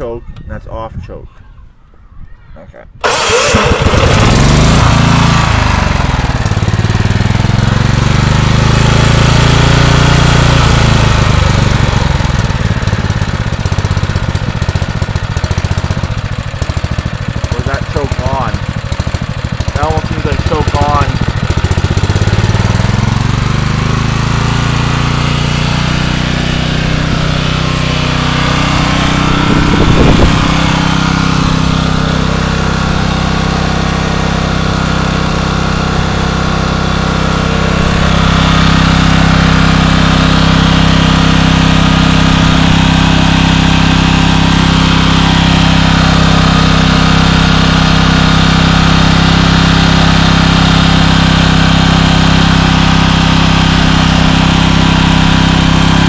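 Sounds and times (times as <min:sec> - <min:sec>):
generator engine running: 0:03.0 - 0:56.0.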